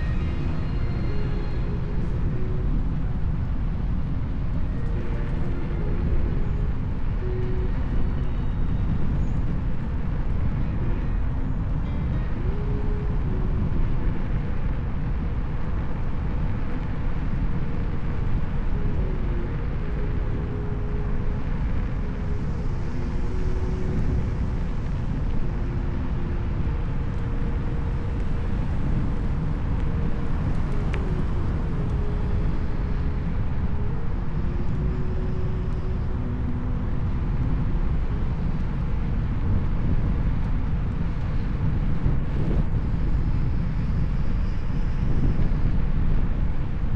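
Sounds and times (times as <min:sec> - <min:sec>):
hub motor whine: 0:00.0 - 0:46.9
low wind on microphone: 0:00.0 - 0:46.9
road rumble: 0:00.0 - 0:46.9.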